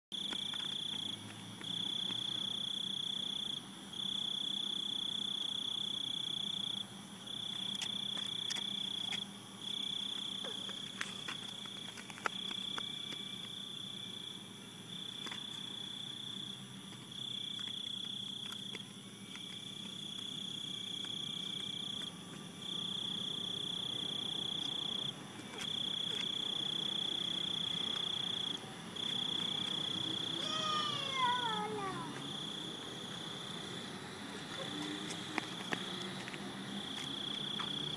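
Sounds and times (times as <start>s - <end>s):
cricket trilling: 0.2s - 37.9s.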